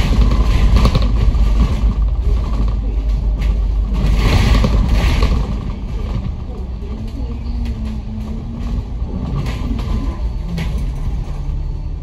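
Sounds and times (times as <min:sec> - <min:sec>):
bus engine and road rumble: 0:00.0 - 0:12.0
bus fittings rattling and creaking: 0:00.0 - 0:12.0.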